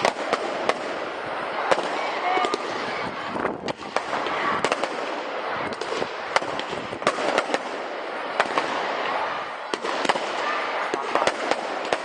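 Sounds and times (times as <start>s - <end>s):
continuous crackling hiss: 0.0s - 12.0s
firework bangs and cracks: 0.0s - 12.0s.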